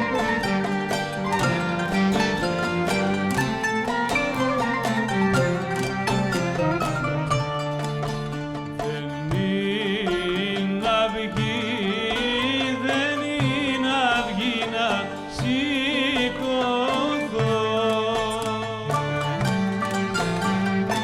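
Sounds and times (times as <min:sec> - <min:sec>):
person singing ornamented melody: 0:00.0 - 0:21.0
plucked string notes: 0:00.0 - 0:21.0.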